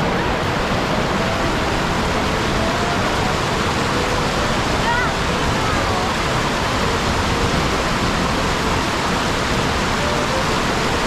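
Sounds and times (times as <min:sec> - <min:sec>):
heavy rain: 0:00.0 - 0:11.0
stream rushing over rock: 0:00.0 - 0:11.0.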